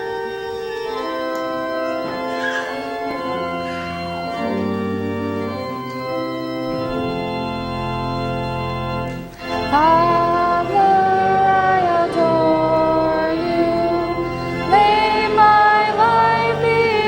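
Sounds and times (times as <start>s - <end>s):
church organ playing held chords: 0.0s - 17.0s.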